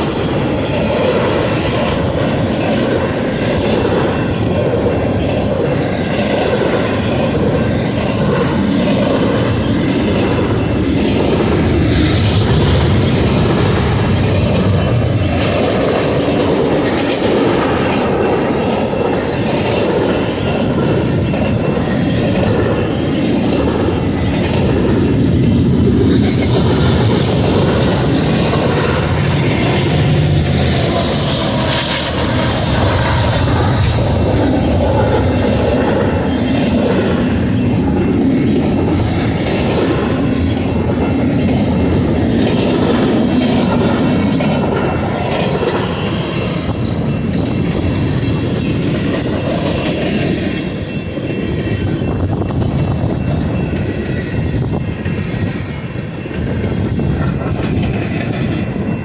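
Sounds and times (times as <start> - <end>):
train wheels running over rails: 0.0 - 59.0.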